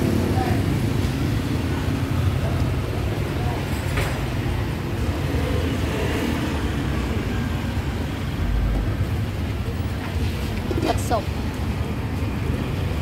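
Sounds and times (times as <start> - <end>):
busy street market ambience: 0.0 - 13.0.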